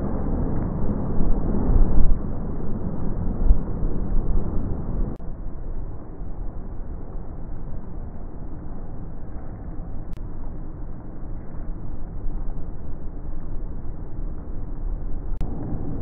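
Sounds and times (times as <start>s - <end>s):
rain: 0.0s - 16.0s
thunder rumbling: 0.0s - 16.0s.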